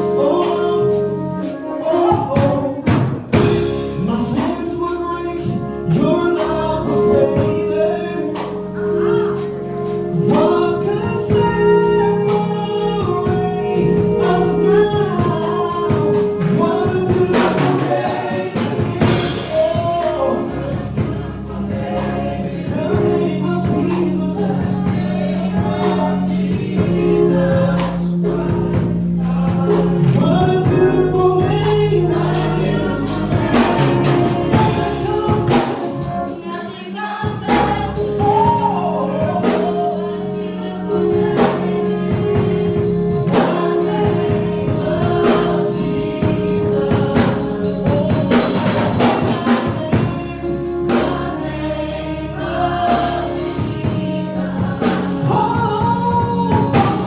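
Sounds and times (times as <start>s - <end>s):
gospel choir singing: 0.0s - 57.0s
organ-like chords: 0.0s - 57.0s
steady beat: 0.0s - 57.0s.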